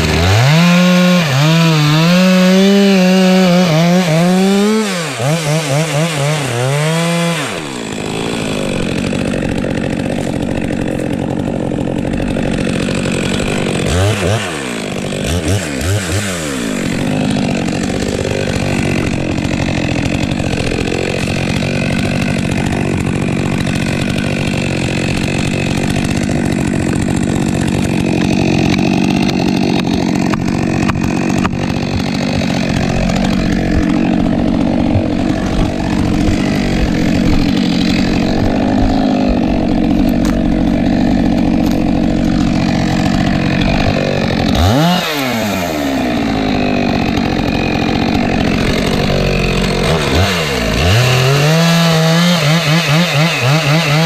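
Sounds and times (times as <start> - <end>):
chainsaw idling: 0.0 - 54.0
chainsaw throttle blips: 0.0 - 54.0.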